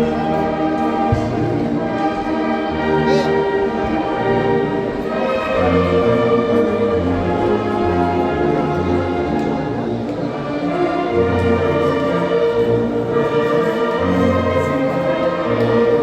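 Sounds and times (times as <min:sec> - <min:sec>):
wind band playing chords: 0:00.0 - 0:16.0.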